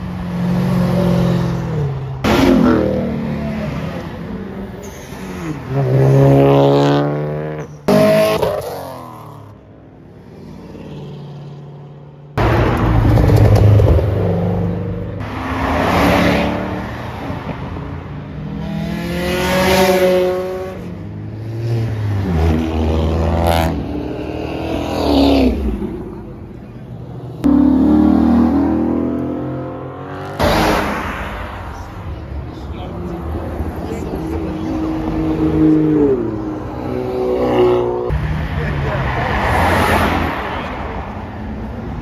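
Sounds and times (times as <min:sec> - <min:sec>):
cars accelerating past: 0:00.0 - 0:09.6, 0:10.2 - 0:26.7, 0:27.3 - 0:42.0.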